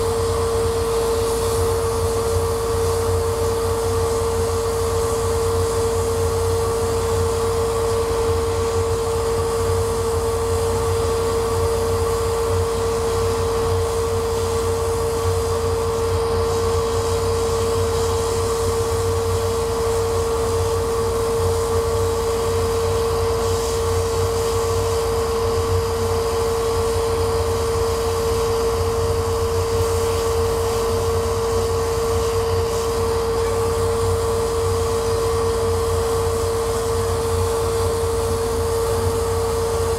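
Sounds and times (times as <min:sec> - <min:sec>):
constant hum tone: 0:00.0 - 0:39.9
laser cutter whirring: 0:00.0 - 0:39.9.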